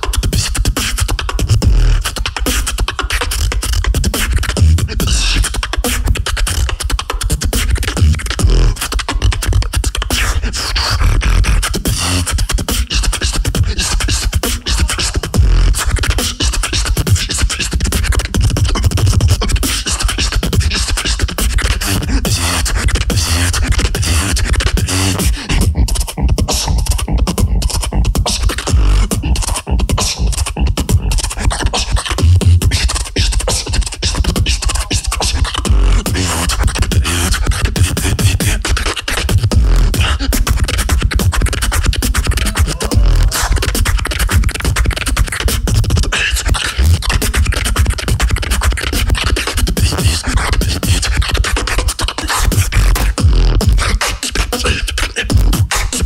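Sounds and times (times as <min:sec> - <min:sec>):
beatboxing vocal percussion: 0:00.0 - 0:56.0.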